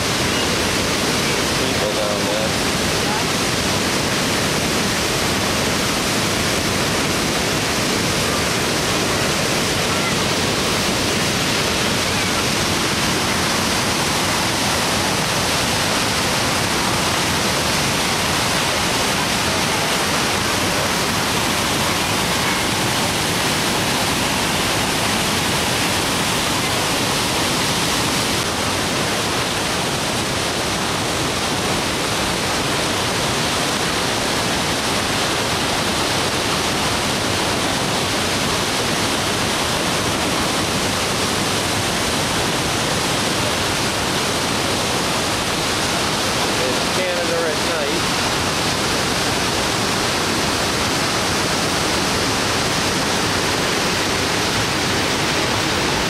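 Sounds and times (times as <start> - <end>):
waterfall rushing and crashing: 0.0 - 56.0.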